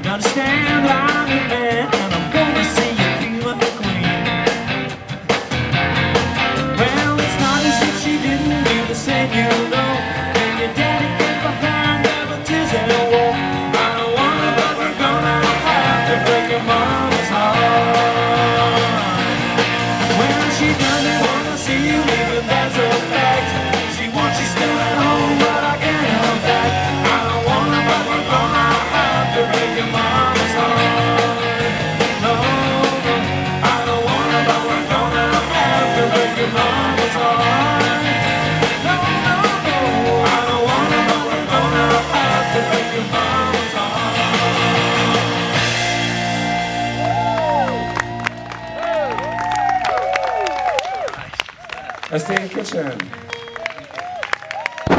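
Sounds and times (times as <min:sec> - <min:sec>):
drum kit: 0:00.0 - 0:50.0, 0:54.6 - 0:54.9
electric bass: 0:00.0 - 0:51.0
electric guitars: 0:00.0 - 0:51.6.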